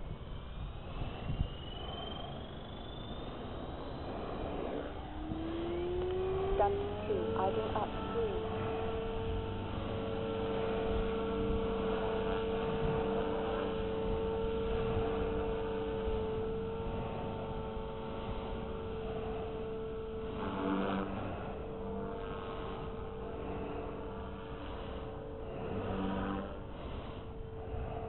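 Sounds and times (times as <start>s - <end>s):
rc helicopter rotor whine: 0.0s - 28.0s.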